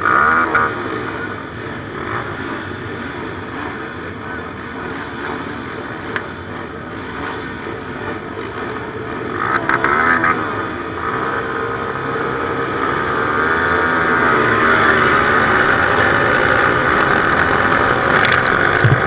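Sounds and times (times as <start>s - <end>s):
motocross motorcycle engines revving: 0.0s - 19.0s.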